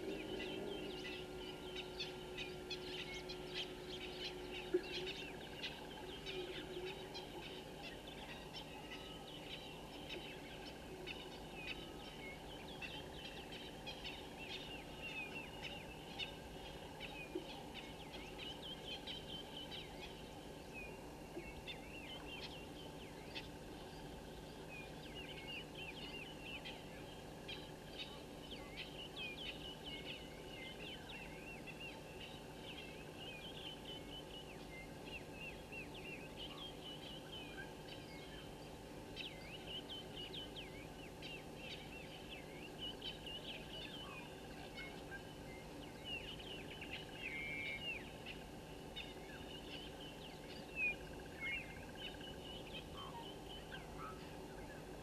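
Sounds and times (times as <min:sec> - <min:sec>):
low steady hum: 0:00.0 - 0:55.0
many birds chirping: 0:00.0 - 0:55.0.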